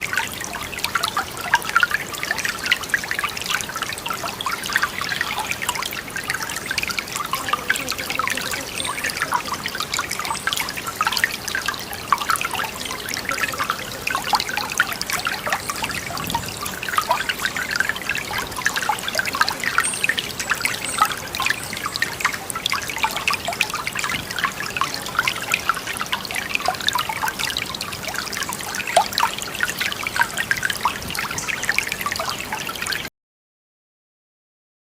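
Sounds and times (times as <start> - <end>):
water trickling: 0.0 - 33.1.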